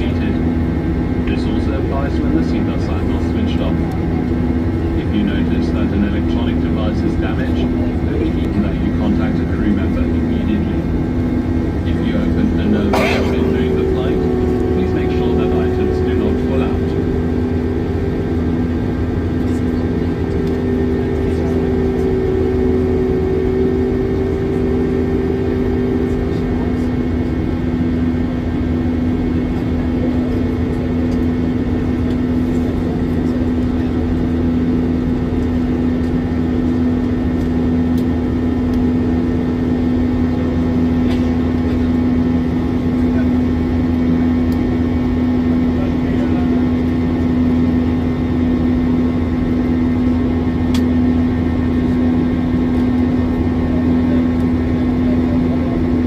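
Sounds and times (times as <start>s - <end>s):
higher engine tone: 0.0s - 56.0s
jet engines droning in cabin: 0.0s - 56.0s.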